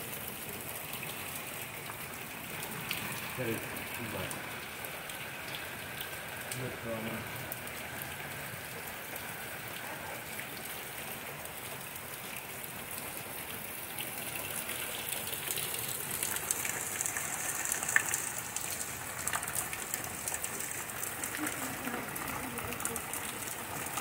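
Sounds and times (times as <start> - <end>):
rain falling on pavement: 0.0 - 24.0.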